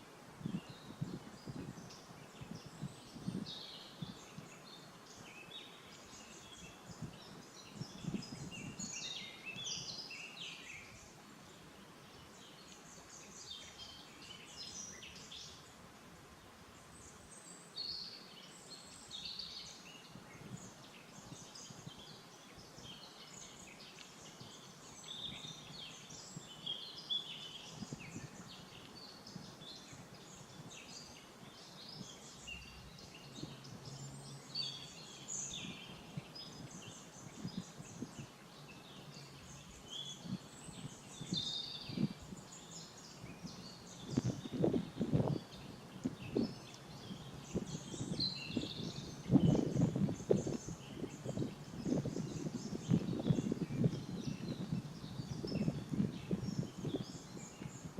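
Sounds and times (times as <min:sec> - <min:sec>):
small birds chirping: 0:00.0 - 0:57.9
steady outdoor hiss: 0:00.0 - 0:57.9.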